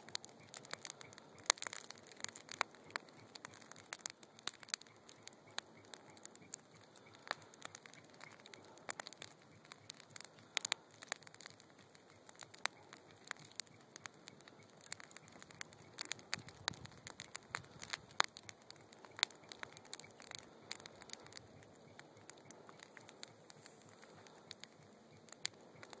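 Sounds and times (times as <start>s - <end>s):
fire popping and snapping: 0.0s - 26.0s
soft fire hiss: 0.0s - 26.0s
wood fire crackling: 0.0s - 26.0s.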